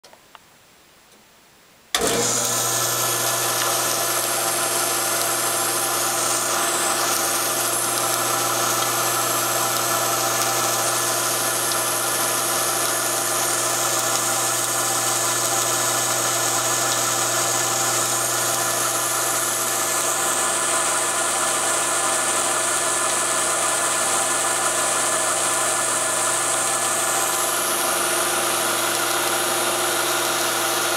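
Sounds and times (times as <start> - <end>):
band saw running: 2.0 - 30.9.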